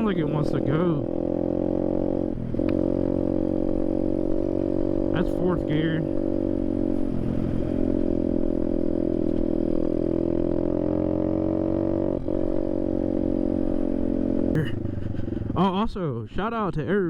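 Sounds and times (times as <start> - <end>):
pit bike engine running: 0.0 - 16.1.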